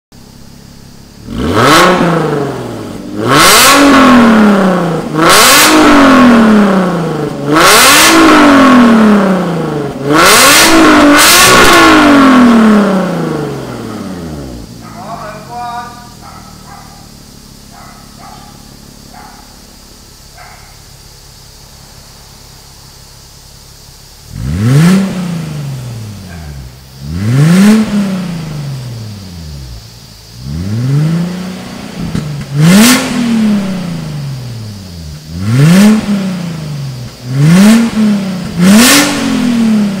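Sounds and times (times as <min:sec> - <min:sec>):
car engine idling and revving: 0:00.1 - 0:40.0.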